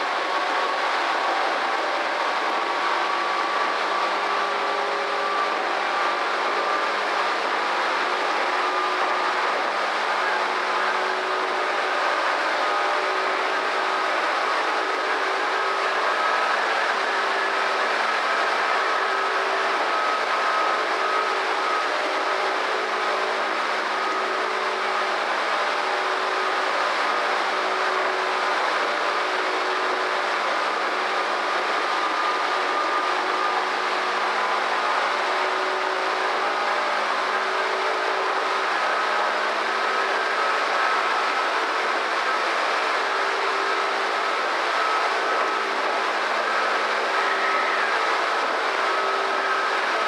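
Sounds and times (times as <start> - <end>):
steady humming tones: 0.0 - 50.0.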